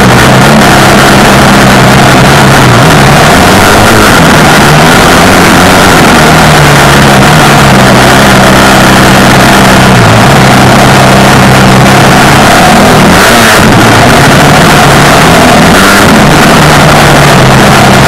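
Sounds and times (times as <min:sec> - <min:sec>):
heavy rushing noise: 0:00.0 - 0:18.0
off-road vehicle engine running: 0:00.0 - 0:18.0.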